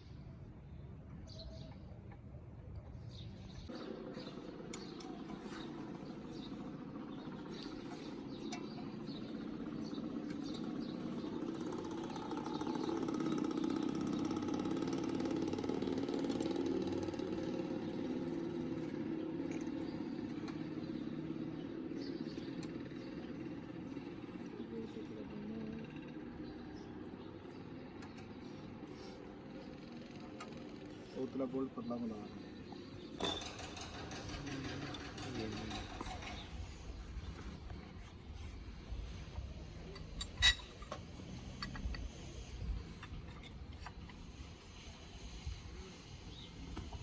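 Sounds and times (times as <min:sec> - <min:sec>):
vehicle engine running: 0:03.6 - 0:47.0.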